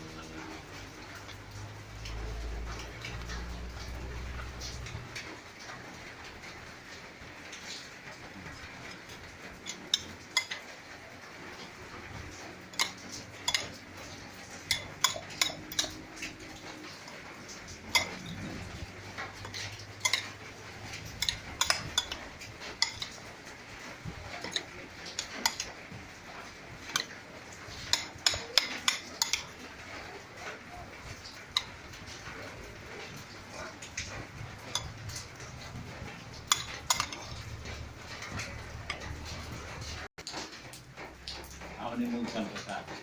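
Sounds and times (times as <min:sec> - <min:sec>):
utensils clinking against dishes: 0:07.5 - 0:43.0.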